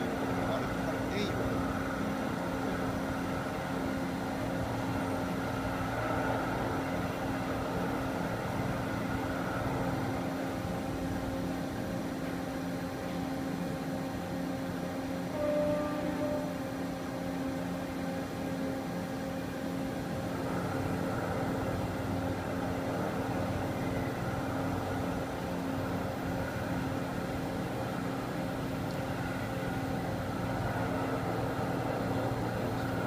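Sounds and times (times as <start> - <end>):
milling machine hum: 0.0 - 33.0.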